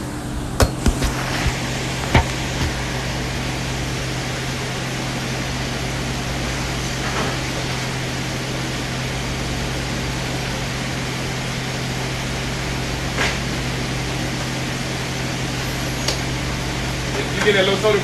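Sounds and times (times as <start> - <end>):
fan whooshing with hum: 0.0 - 18.0.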